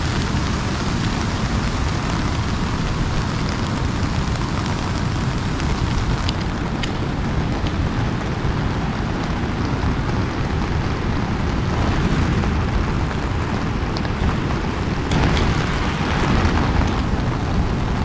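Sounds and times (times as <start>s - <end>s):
rain on an umbrella: 0.0s - 18.0s
drops ticking on umbrella: 0.1s - 18.0s.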